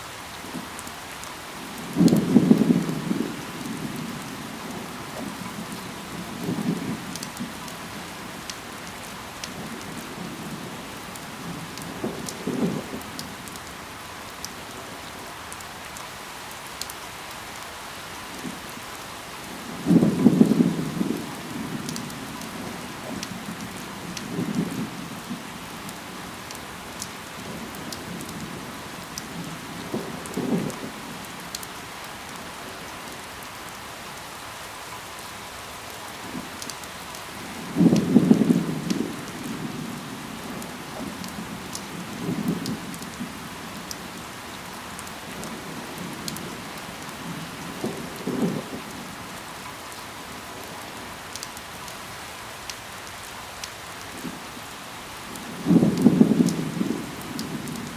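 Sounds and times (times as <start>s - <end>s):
steady rain falling: 0.0s - 57.9s
raindrop ticks: 0.5s - 14.8s, 15.5s - 17.7s, 19.8s - 33.6s, 34.9s - 57.9s.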